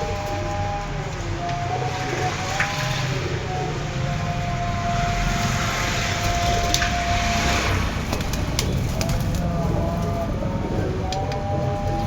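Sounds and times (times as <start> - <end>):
pigeons cooing: 0.0 - 12.0
street traffic noise: 0.0 - 12.0.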